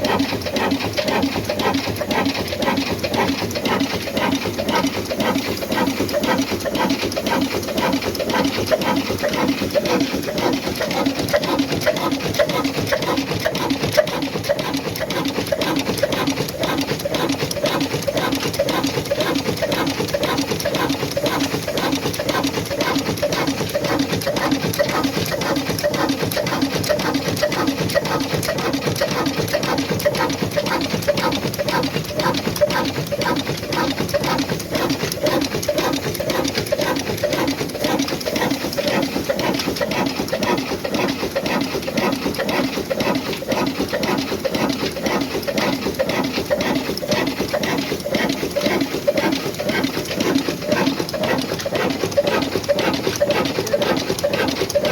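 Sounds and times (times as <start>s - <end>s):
diesel engine running rhythmically: 0.0s - 54.9s.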